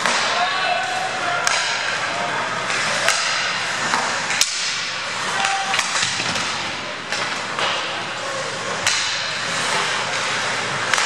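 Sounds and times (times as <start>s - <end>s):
hockey sticks and puck clacking: 0.0s - 11.0s
skate blades scraping on ice: 2.0s - 11.0s.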